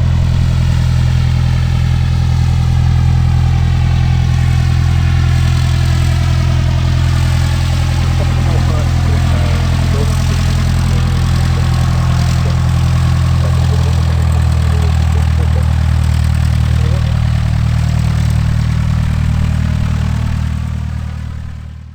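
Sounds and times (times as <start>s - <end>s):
airplane piston engine idling: 0.0s - 21.9s.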